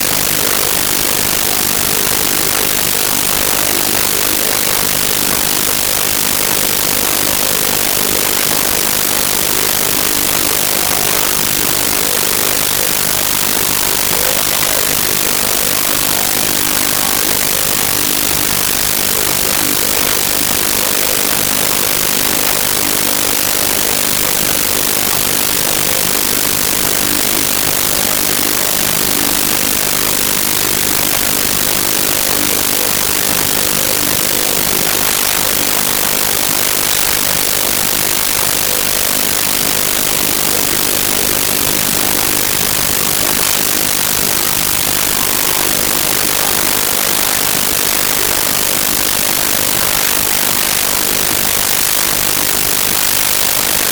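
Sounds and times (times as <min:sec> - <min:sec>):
static hiss: 0:00.0 - 0:53.9.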